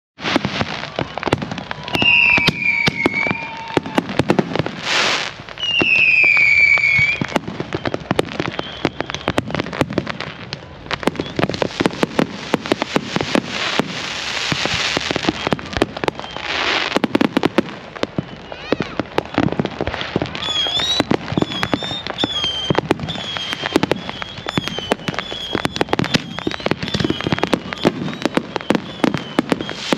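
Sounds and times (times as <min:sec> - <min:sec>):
fireworks crackling and banging: 0:00.2 - 0:29.9
fireworks falling whistles: 0:00.2 - 0:29.9.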